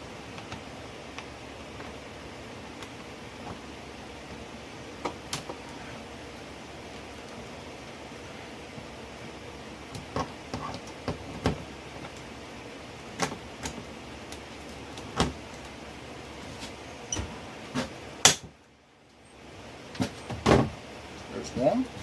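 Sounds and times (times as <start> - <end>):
steady low hiss: 0.0 - 22.0.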